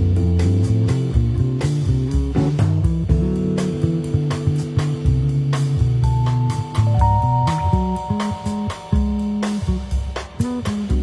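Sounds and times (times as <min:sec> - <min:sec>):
bass line: 0:00.0 - 0:11.0
guitar: 0:00.0 - 0:11.0
drum beat: 0:00.1 - 0:11.0.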